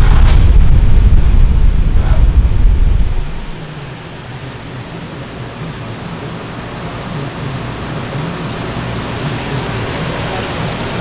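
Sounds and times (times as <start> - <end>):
low wavering hum: 0.0 - 11.0
steady rushing noise: 0.0 - 11.0.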